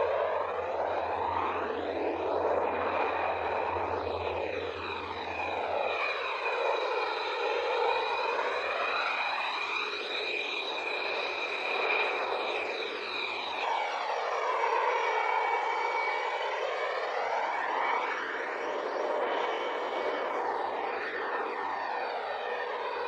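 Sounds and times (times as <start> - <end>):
jet engines taxiing: 0.0 - 23.0.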